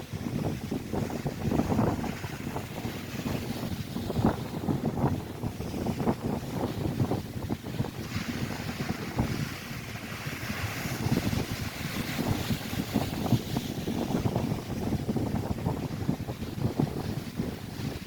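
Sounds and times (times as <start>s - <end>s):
waves breaking on shore: 0.0s - 18.0s
wind buffeting microphone: 0.0s - 18.0s.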